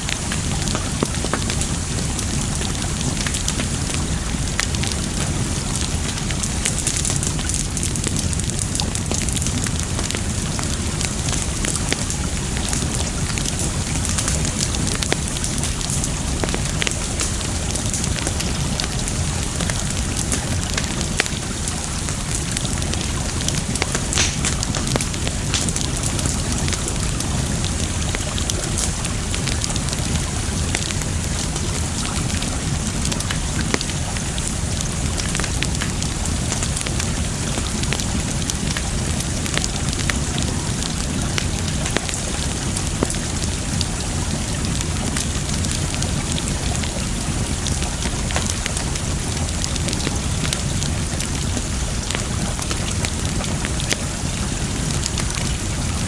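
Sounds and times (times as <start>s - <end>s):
rushing water: 0.0s - 56.0s
wood fire crackling and popping: 0.0s - 56.0s.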